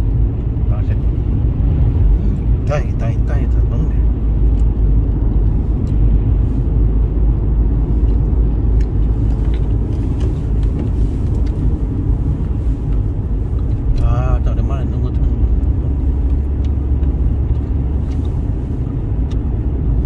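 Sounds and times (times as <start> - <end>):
car engine and road rumble: 0.0 - 20.0
tyres on wet road: 0.0 - 20.0.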